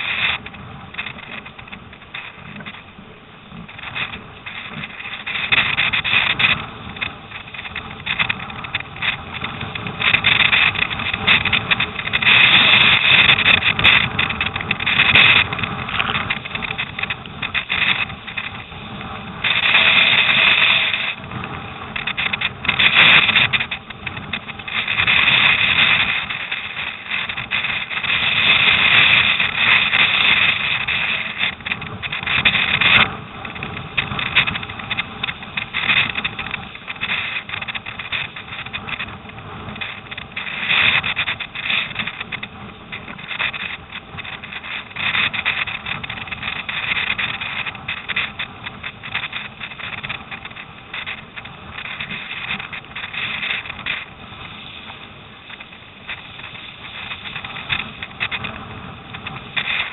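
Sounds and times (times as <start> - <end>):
water rushing and splashing: 0.0 - 48.2
wind buffeting microphone: 0.0 - 59.9.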